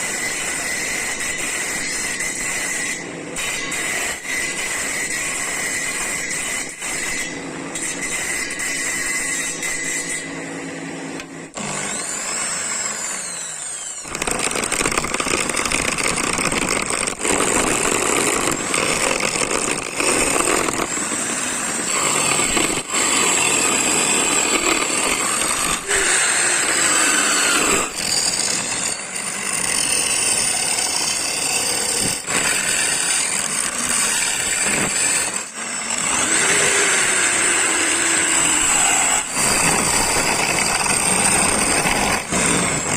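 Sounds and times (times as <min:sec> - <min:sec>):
power tool cutting wood: 0:00.0 - 0:42.9.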